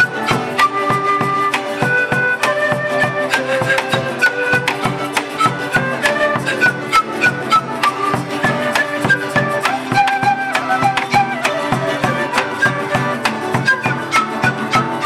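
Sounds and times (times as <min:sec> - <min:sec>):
flute melody: 0:00.0 - 0:15.0
strummed charango and guitar: 0:00.0 - 0:15.0.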